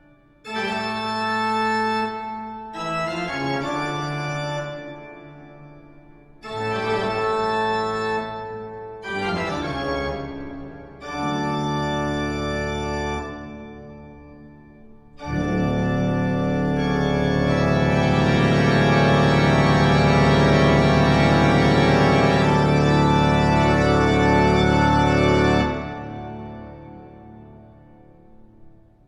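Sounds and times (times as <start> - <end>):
organ chords: 0.0 - 29.0.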